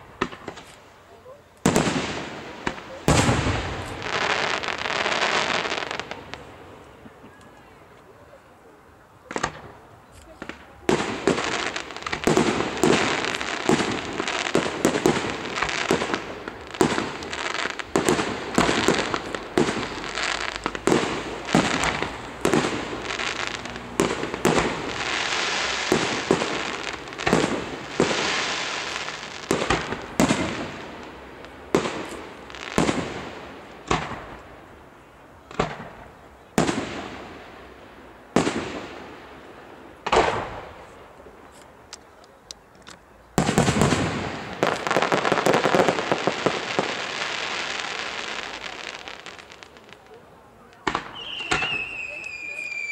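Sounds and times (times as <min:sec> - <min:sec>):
firework crackling: 0:00.0 - 0:07.6, 0:09.2 - 0:52.9.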